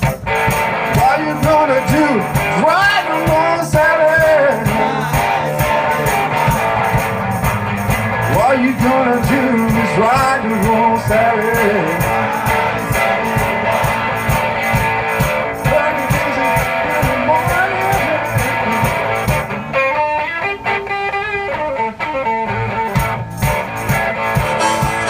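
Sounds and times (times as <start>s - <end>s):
guitar playing: 0.0s - 15.7s, 16.3s - 25.0s
percussion beat: 0.0s - 19.6s, 22.9s - 25.0s.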